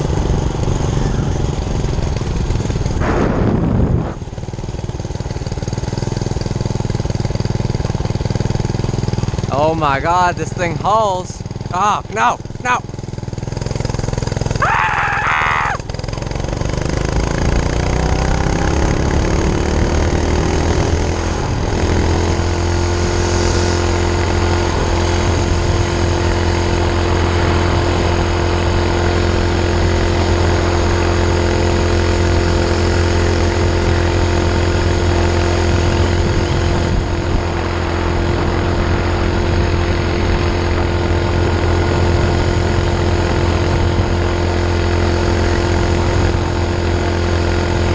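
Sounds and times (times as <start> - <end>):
minibike engine pulling hard: 0.0 - 47.9.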